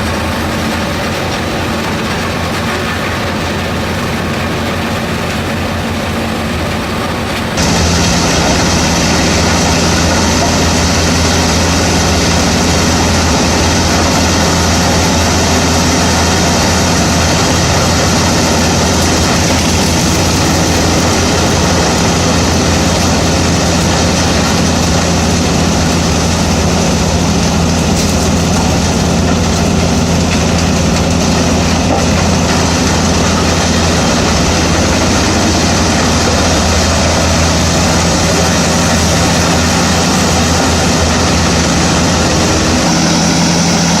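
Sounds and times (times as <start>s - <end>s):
wood chipper running: 0.0s - 44.0s.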